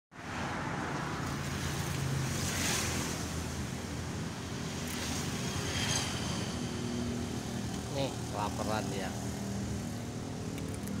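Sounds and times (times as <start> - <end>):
low rumble of street traffic: 0.1 - 11.0.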